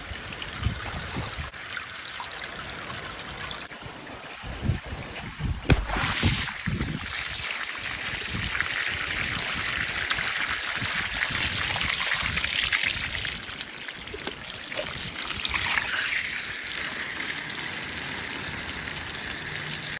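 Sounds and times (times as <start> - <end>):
water running and trickling: 0.0 - 5.3, 6.0 - 19.9.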